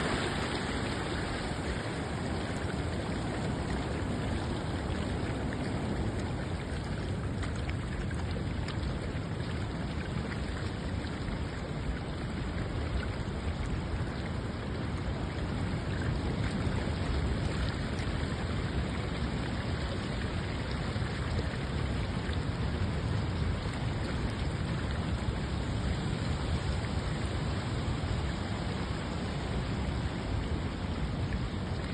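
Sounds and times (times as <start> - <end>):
rushing water: 0.0 - 31.9.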